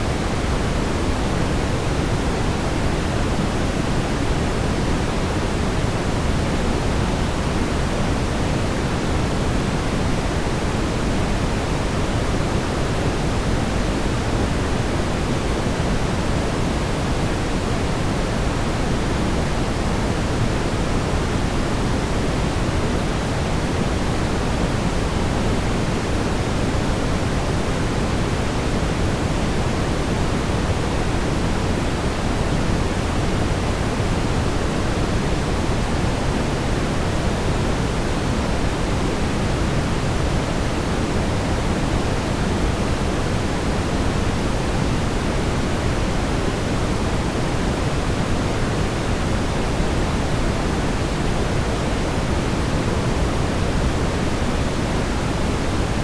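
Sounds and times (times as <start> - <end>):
brown noise rumbling hiss: 0.0 - 56.0.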